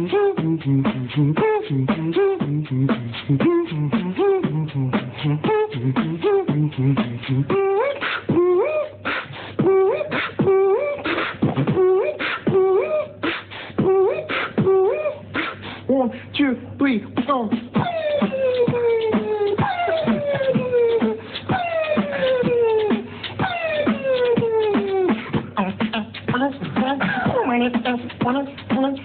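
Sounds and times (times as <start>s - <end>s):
beatboxing drum-like clicks: 0.0s - 15.8s, 17.2s - 29.0s
pitched vocal line: 0.0s - 16.1s, 17.1s - 29.0s.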